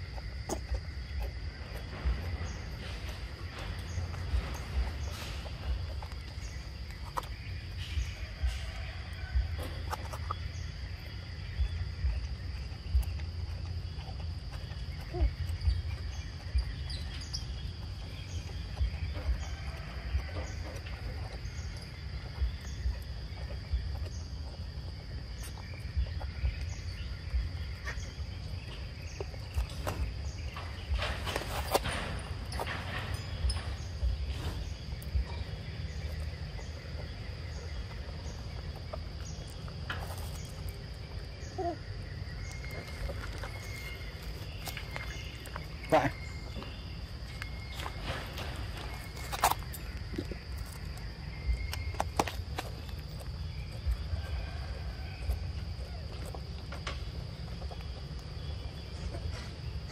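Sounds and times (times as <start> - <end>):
insects trilling: 0.0 - 59.9
low uneven rumble with bumps: 0.0 - 59.9.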